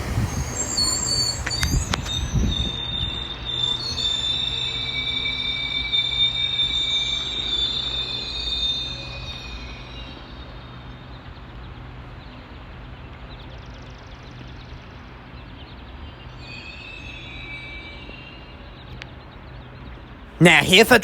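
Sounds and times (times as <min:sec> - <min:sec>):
train wheels squealing: 0:00.0 - 0:20.3
diesel locomotive idling hum: 0:00.0 - 0:21.0.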